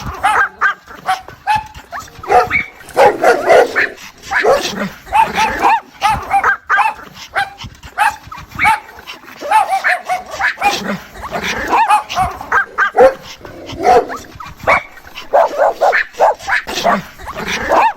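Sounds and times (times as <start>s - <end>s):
dog yipping and whining: 0.0s - 10.7s, 11.7s - 17.0s.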